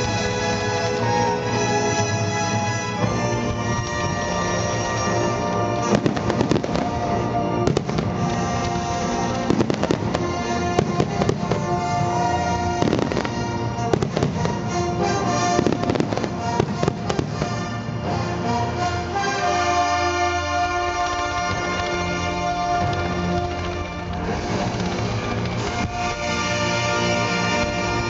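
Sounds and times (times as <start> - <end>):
fireworks bursting: 0.0 - 28.0
loud music: 0.0 - 28.0.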